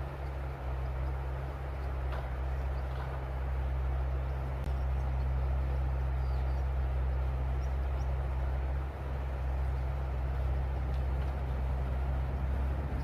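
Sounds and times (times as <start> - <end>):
low rumble: 0.0 - 13.0
small birds chirping: 0.0 - 13.0.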